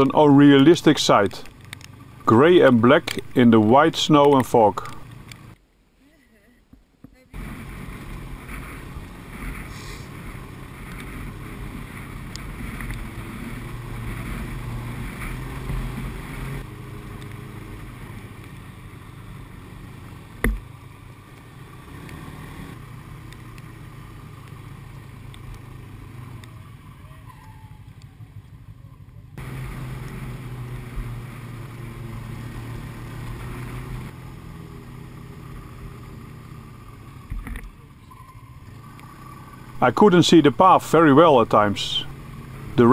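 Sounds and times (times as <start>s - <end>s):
snowmobile engine running: 0.0s - 5.4s, 7.4s - 42.9s.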